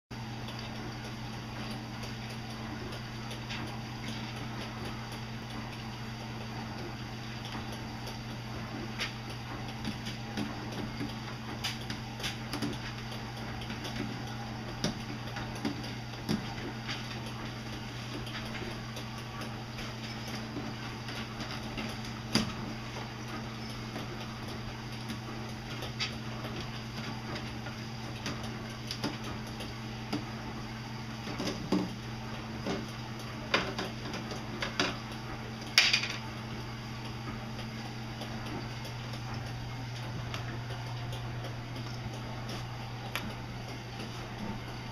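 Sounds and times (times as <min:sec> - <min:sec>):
steady low hum: 0:00.2 - 0:44.9.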